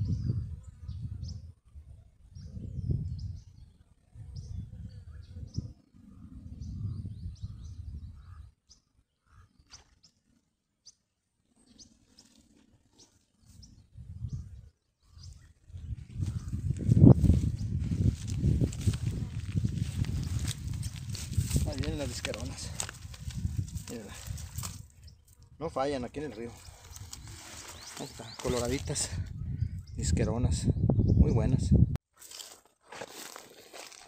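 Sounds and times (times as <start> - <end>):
small birds chirping: 0.0 - 31.6.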